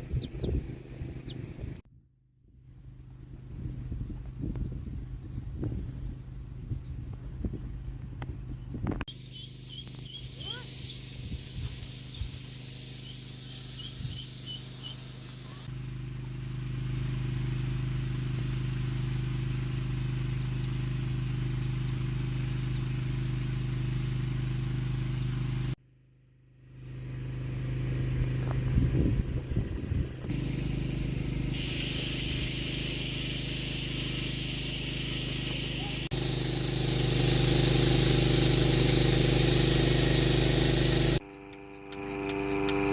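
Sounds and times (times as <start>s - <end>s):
motor running steadily: 0.0s - 1.8s, 3.2s - 25.8s, 26.6s - 42.9s.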